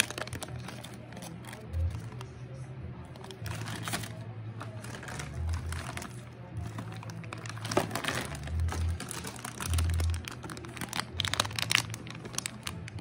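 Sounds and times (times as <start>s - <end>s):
foil snack bags rustling: 0.0s - 2.3s, 3.1s - 13.0s.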